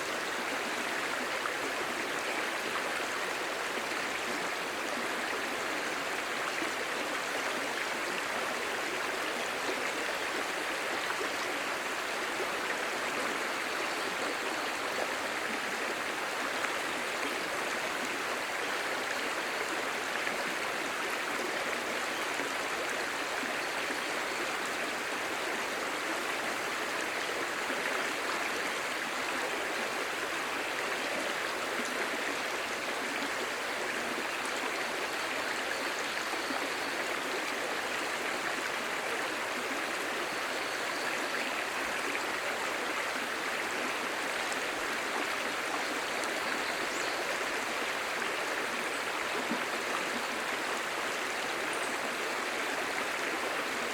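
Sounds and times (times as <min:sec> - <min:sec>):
stream babbling over stones: 0:00.0 - 0:53.9.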